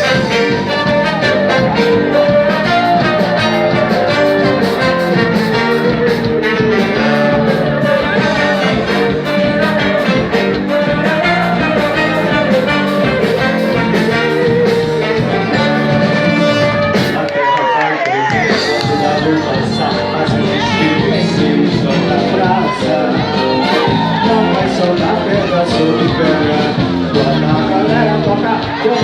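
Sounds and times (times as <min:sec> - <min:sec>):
live band music: 0:00.0 - 0:29.0.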